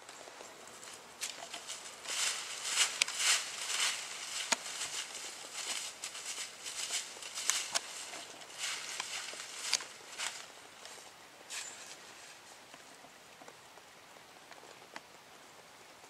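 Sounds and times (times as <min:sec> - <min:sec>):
high crackly rustling: 0:00.0 - 0:13.6.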